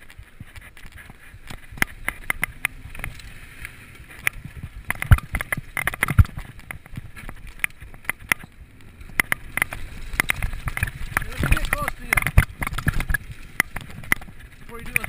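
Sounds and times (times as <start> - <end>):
bike chain and frame rattling: 0.0 - 15.0
tyres rushing on loose dirt: 0.0 - 15.0
wind: 0.0 - 15.0.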